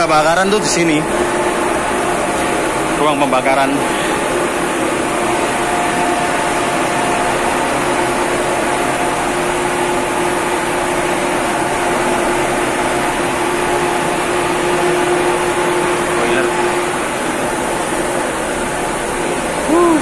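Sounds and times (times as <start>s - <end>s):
engine room machinery drone: 0.0s - 20.0s
faint constant whine: 0.0s - 20.0s.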